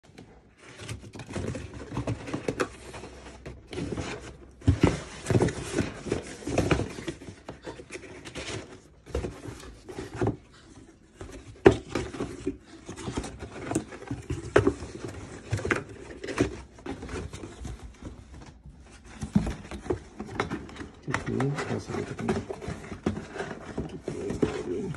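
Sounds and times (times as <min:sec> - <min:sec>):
cardboard box rustling and scraping: 0:00.1 - 0:24.9.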